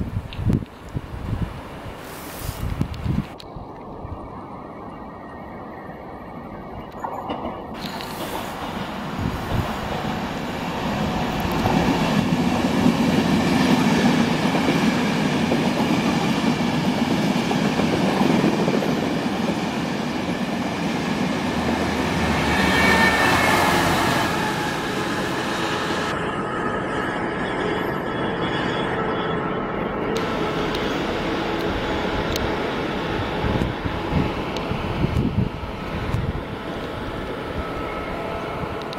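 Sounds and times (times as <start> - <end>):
train wheels rumbling on rails: 6.9 - 38.9.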